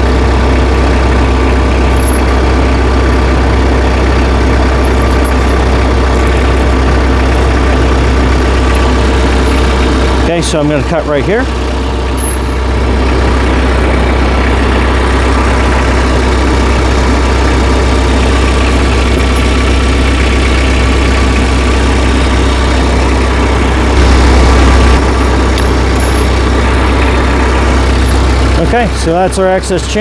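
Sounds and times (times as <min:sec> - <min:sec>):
tractor engine idling: 0:00.0 - 0:30.0.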